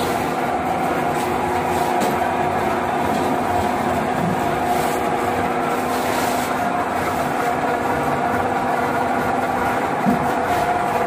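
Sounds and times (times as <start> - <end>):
lathe drone with whine: 0.0 - 11.0.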